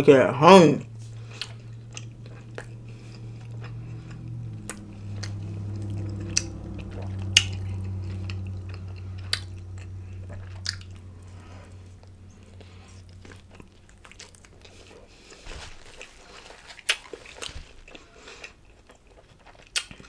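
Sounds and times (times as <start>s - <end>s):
steady low hum: 0.0s - 16.1s
close-up chewing and biting: 1.0s - 6.2s, 8.8s - 20.0s.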